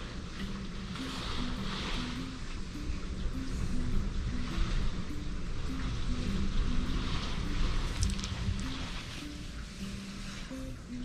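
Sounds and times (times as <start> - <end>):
strong wind rumble and hiss: 0.0 - 10.6
background music melody: 0.0 - 11.0.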